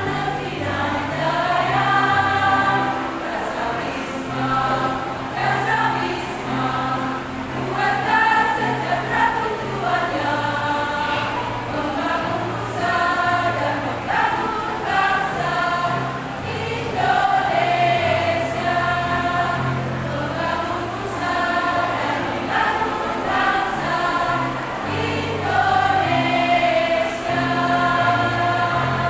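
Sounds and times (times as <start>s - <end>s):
women's choir singing: 0.0s - 29.0s.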